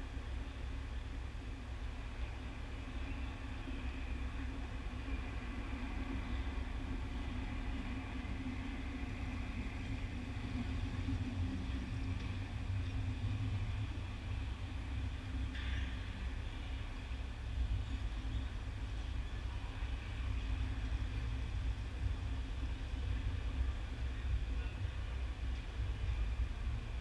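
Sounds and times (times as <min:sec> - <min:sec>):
ice arena rumble and hum: 0:00.0 - 0:27.0.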